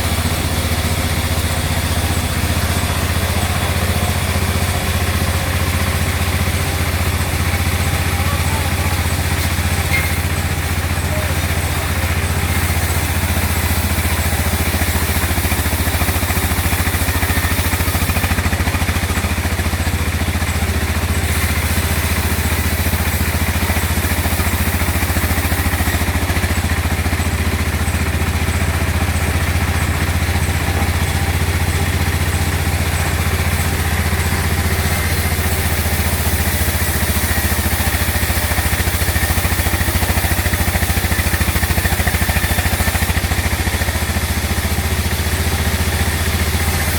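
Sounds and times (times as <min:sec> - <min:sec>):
machinery clatter: 0:00.0 - 0:46.9
sawmill machinery drone: 0:00.0 - 0:46.9.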